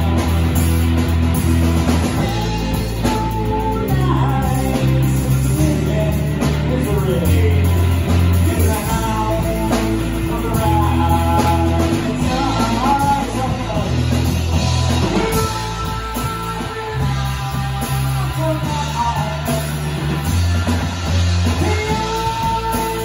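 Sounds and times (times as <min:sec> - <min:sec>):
drum kit: 0:00.0 - 0:23.0
electric bass: 0:00.0 - 0:23.0
electric guitar: 0:00.0 - 0:23.0
man singing: 0:02.0 - 0:23.0.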